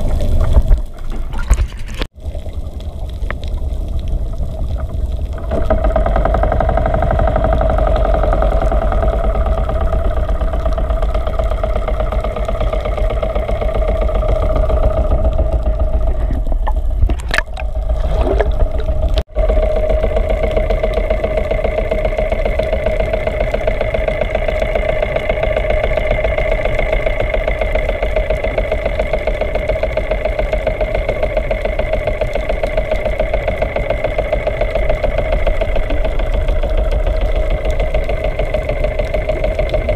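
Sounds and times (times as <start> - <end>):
motor engine droning underwater: 0.0 - 39.9.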